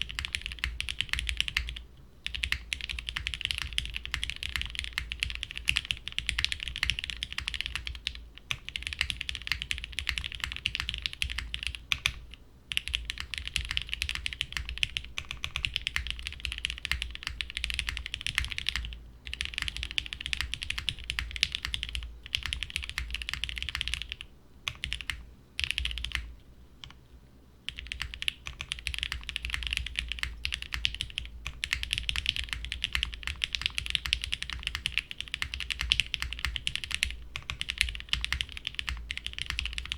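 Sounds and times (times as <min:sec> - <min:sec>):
mechanical keyboard typing: 0:00.0 - 0:27.0, 0:27.7 - 0:39.9.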